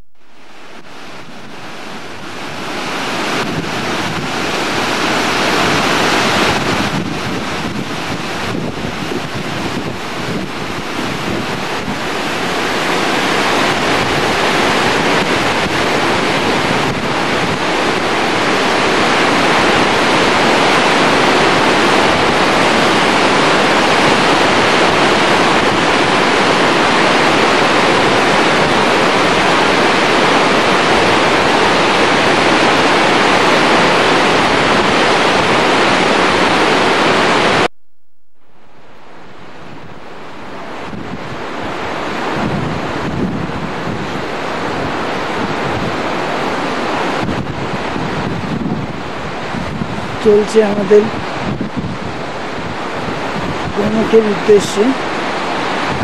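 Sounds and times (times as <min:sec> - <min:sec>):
stream rushing over rocks: 0:00.2 - 0:37.7, 0:38.5 - 0:56.0.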